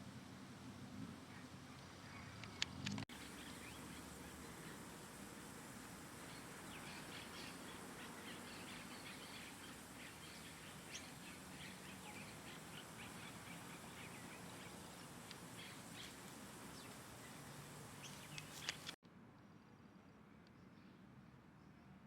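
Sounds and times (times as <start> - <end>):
faint steady hiss: 0.0 - 22.0
small birds chirping: 1.3 - 19.0.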